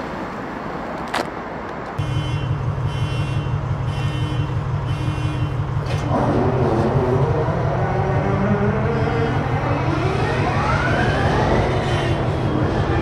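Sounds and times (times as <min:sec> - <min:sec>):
diesel locomotive engine rumbling: 0:01.7 - 0:13.0.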